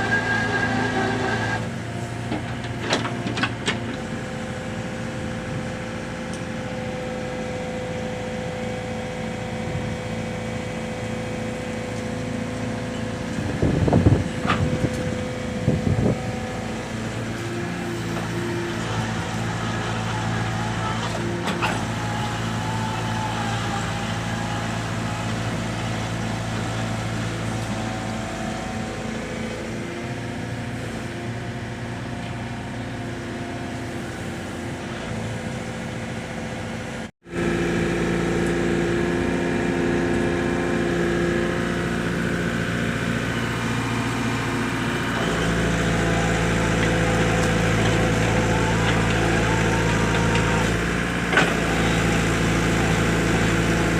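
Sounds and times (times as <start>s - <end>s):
mini excavator engine running: 0.0s - 53.9s.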